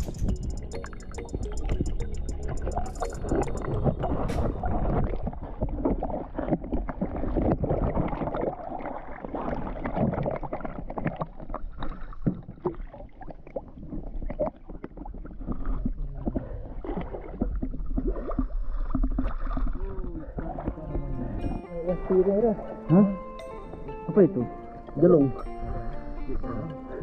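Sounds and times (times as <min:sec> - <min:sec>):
underwater bubbles and churning: 0:00.0 - 0:27.0
water splashing and sloshing: 0:00.0 - 0:27.0.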